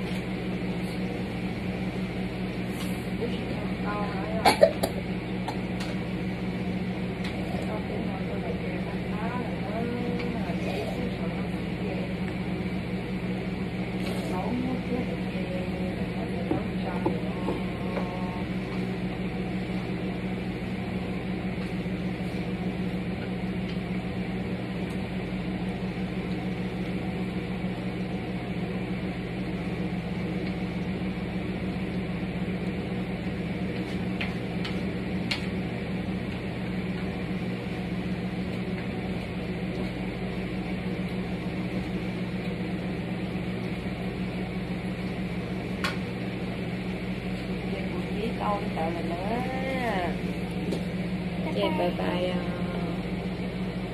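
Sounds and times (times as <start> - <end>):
low mechanical hum: 0.0 - 53.9.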